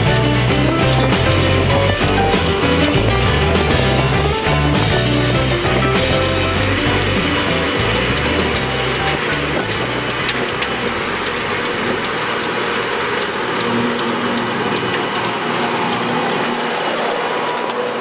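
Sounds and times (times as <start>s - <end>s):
forage harvester chopping silage: 0.0s - 17.8s
sharp ticks: 0.0s - 18.0s.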